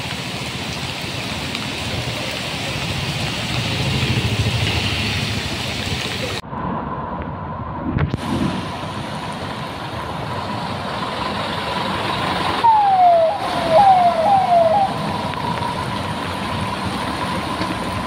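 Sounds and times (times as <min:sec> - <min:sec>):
heavy rain pouring: 0:00.0 - 0:06.4, 0:08.1 - 0:18.0
traffic passing: 0:00.0 - 0:18.0
vehicles splashing through water: 0:00.0 - 0:18.0.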